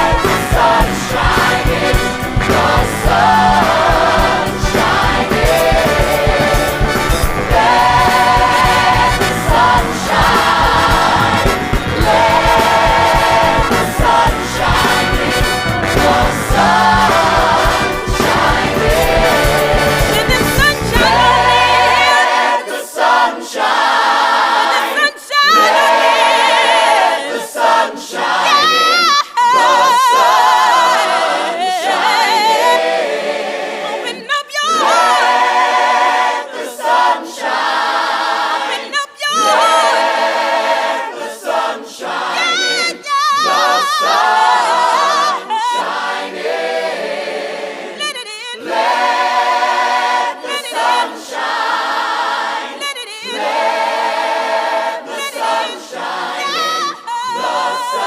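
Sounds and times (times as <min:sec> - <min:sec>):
choir singing unaccompanied: 0:00.0 - 0:58.0.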